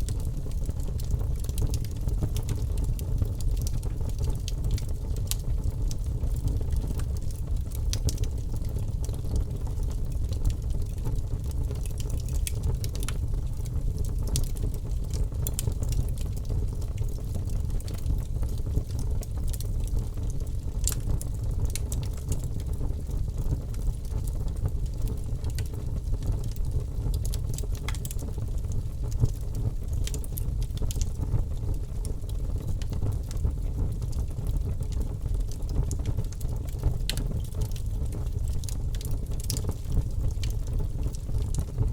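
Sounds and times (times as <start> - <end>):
fire crackling and popping: 0.0 - 41.9
fire rumbling: 0.0 - 41.9.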